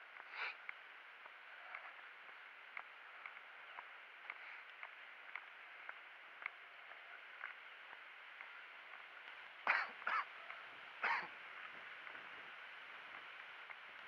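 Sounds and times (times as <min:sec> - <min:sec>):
faint scattered clicks: 0:00.0 - 0:14.0
steady outdoor hiss: 0:00.0 - 0:14.0.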